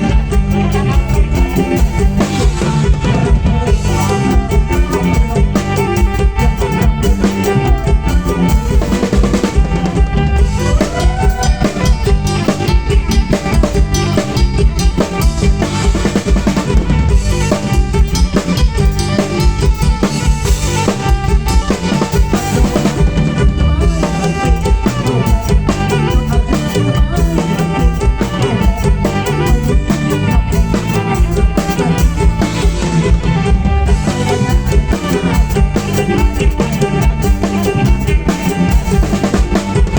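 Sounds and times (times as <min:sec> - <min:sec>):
drum kit beating a steady rhythm: 0:00.0 - 0:39.9
melodic instruments playing: 0:00.0 - 0:39.9.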